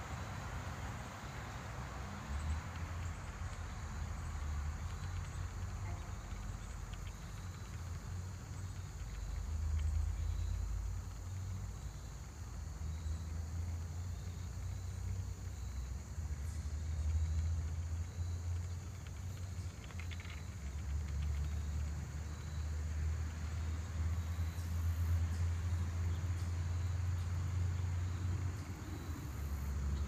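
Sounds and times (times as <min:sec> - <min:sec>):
insect chirring: 0:00.0 - 0:30.0.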